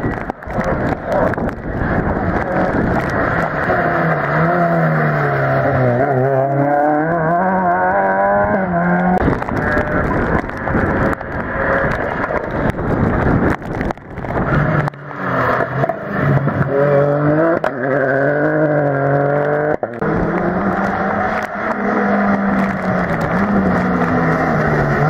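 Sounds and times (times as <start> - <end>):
rally car engine changing gears: 0.0 - 25.0.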